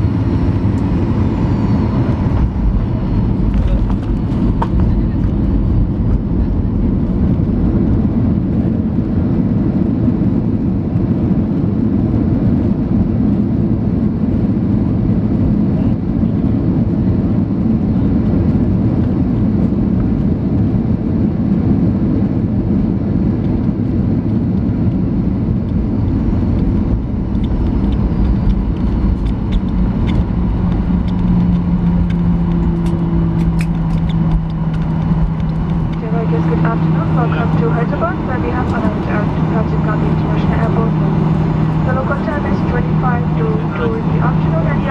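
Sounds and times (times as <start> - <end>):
aircraft cabin rumble on runway: 0.0 - 44.9
steady low hum: 0.0 - 44.9.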